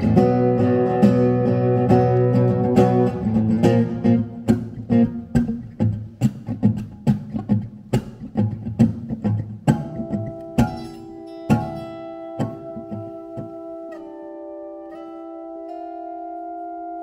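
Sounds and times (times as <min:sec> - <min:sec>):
percussive strikes on guitar: 0:00.0 - 0:16.4
guitar playing: 0:00.0 - 0:17.0.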